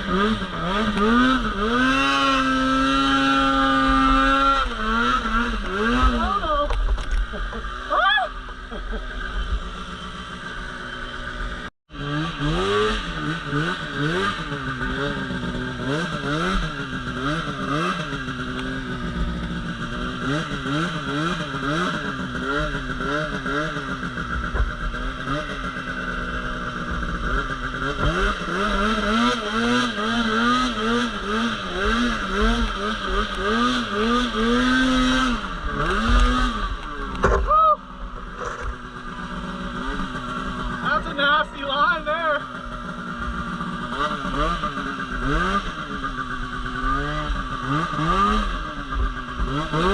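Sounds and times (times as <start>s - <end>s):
snowmobile engine revving: 0.0s - 49.9s.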